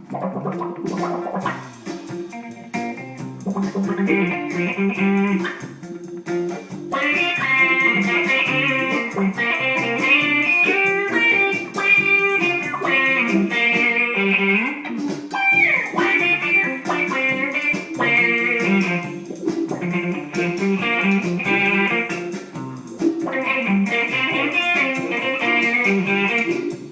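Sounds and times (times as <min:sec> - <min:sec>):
guitar playing blues: 0:00.0 - 0:26.9.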